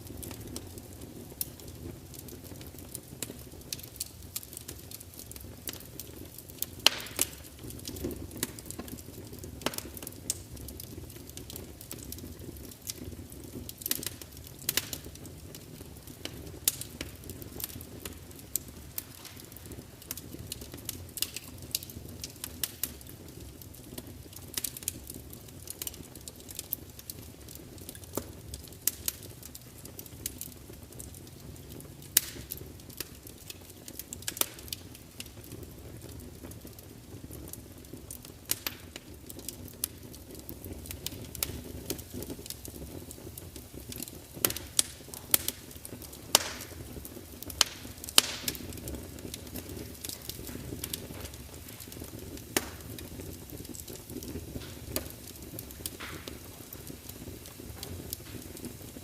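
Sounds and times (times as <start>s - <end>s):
loud pops from fire: 0.0s - 59.0s
wood fire crackling: 0.0s - 59.0s.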